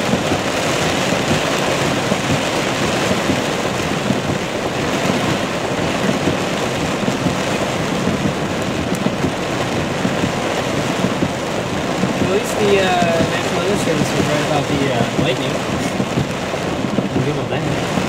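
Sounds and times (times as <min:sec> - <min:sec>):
heavy rain on car roof: 0:00.0 - 0:18.0.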